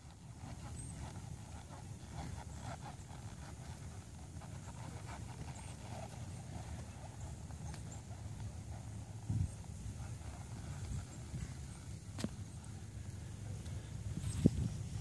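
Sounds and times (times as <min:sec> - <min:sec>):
horse hoofbeats on dirt: 0:00.0 - 0:14.6.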